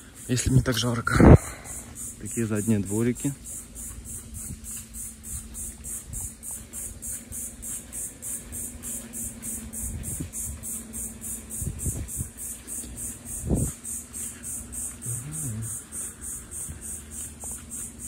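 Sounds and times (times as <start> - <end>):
insect chorus pulsing: 0.0 - 18.0
low steady hum: 0.0 - 18.0.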